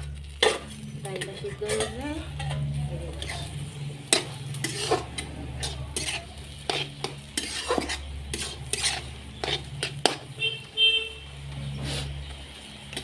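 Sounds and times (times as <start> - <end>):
metal spatula scraping a pan: 0.0 - 10.7, 11.7 - 12.3
light frying sizzle: 0.0 - 13.0.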